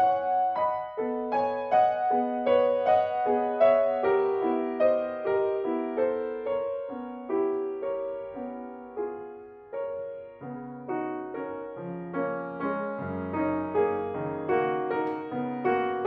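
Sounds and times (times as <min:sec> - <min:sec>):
grand piano melody: 0:00.0 - 0:16.0.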